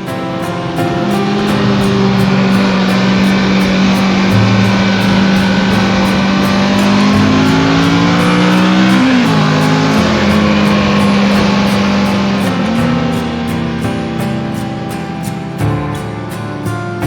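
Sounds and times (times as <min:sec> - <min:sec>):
motorcycle engine: 0:00.0 - 0:15.3
guitar music with steady beat: 0:00.0 - 0:17.0.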